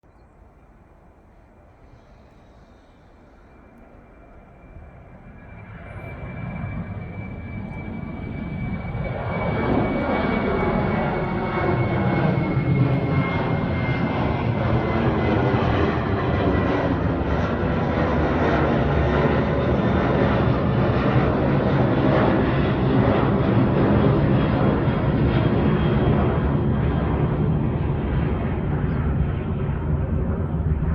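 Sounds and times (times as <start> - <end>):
airplane engine flying overhead: 0.0 - 30.9.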